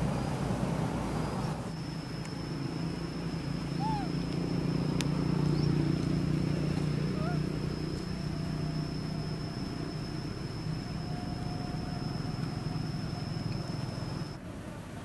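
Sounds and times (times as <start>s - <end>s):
thin high-pitched whine: 1.0s - 14.4s.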